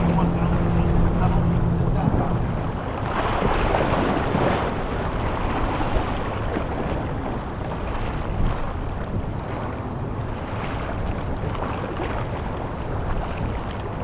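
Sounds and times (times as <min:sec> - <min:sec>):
boat engine drone: 0:00.0 - 0:14.0
wind buffeting microphone: 0:00.0 - 0:14.0.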